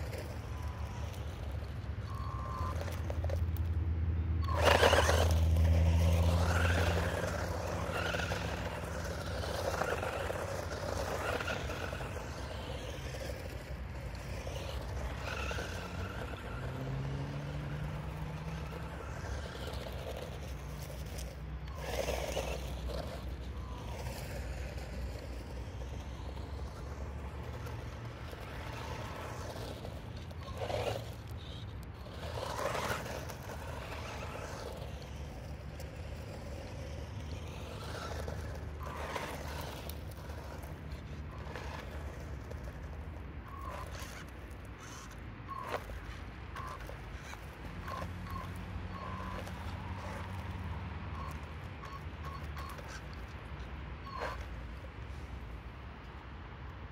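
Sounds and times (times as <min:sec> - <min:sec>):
toy truck motor whining: 0:00.0 - 0:03.8, 0:04.4 - 0:55.4
tyres crunching on gravel: 0:00.0 - 0:03.8, 0:04.4 - 0:53.5.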